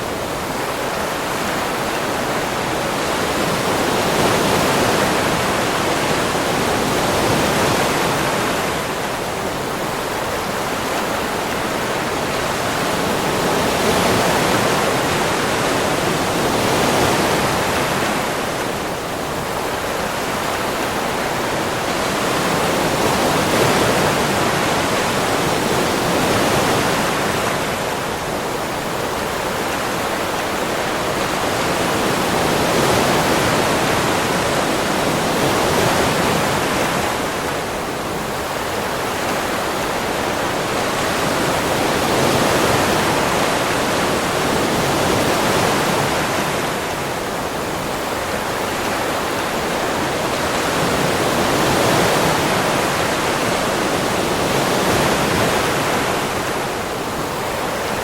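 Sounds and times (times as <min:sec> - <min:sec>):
waves washing onto a beach: 0:00.0 - 0:58.0.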